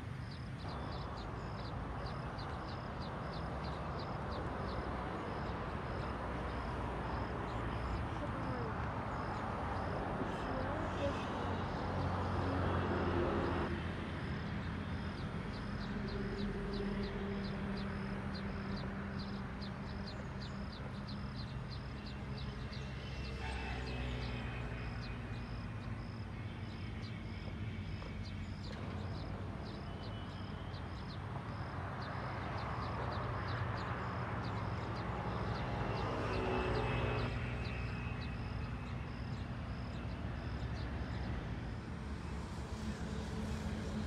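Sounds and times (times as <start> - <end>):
low engine or traffic hum: 0.0 - 44.0.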